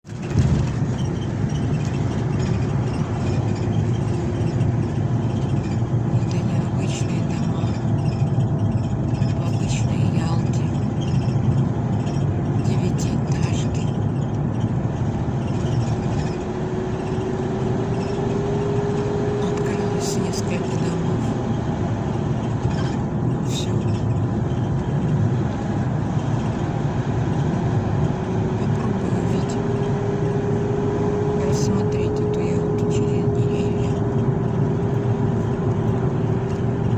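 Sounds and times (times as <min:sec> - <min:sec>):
steady low rumble: 0:00.0 - 0:36.9.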